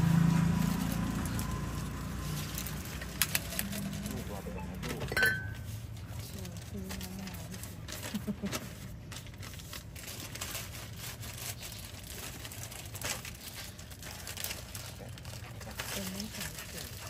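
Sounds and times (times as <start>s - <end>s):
plastic bag crinkling: 0.4s - 17.0s.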